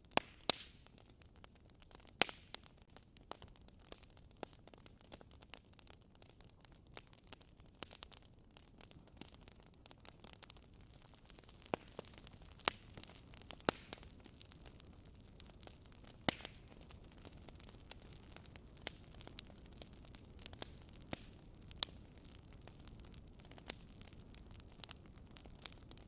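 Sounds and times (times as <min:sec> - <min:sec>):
fire crackling: 0:00.0 - 0:26.0
soft steady hiss: 0:00.0 - 0:26.0.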